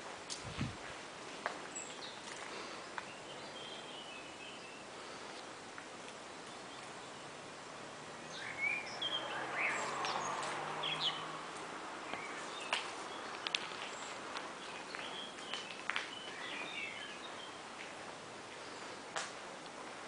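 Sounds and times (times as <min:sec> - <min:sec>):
songbirds chirping: 0:00.0 - 0:20.0
steady outdoor hiss: 0:00.0 - 0:20.0.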